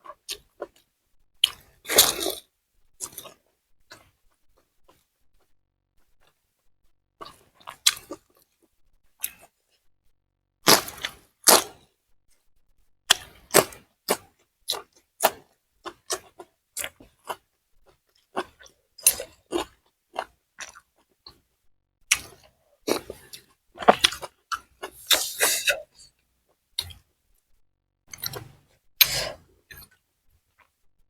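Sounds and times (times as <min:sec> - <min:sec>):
chewing and crunching food: 0:00.0 - 0:06.4, 0:07.2 - 0:09.9, 0:10.6 - 0:12.4, 0:13.1 - 0:21.5, 0:22.1 - 0:30.9.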